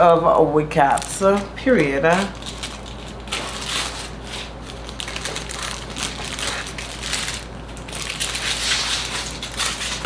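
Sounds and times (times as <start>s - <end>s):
packaging crinkling: 0.8s - 10.0s.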